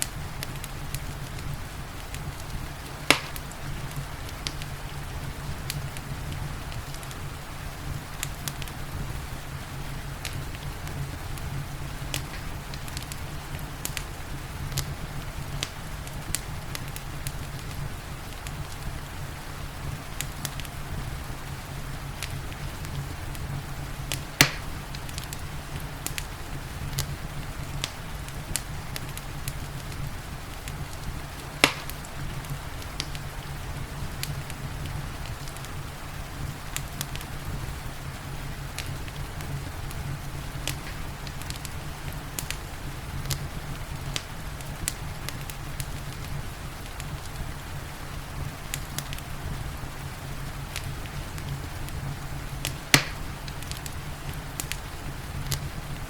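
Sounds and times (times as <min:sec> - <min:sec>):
rain falling: 0:00.0 - 0:56.0
wood fire crackling and popping: 0:00.0 - 0:56.0.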